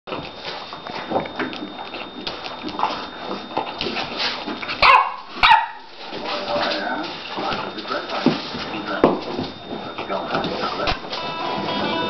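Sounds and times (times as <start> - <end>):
puppies scuffling: 0.1 - 12.0.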